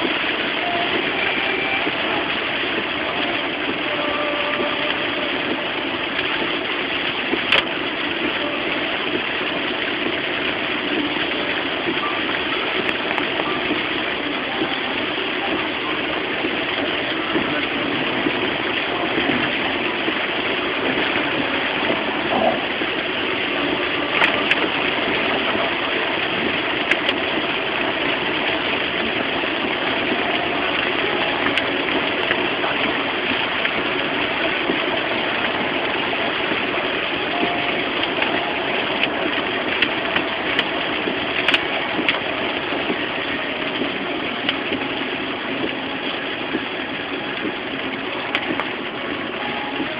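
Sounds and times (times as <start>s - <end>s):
car engine and road noise: 0.0s - 49.9s
heavy rain on a car: 0.0s - 49.9s.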